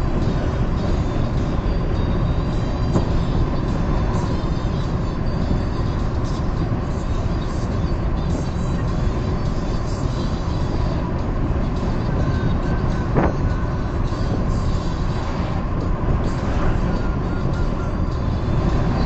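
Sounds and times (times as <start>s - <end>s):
car driving on highway: 0.0s - 19.0s.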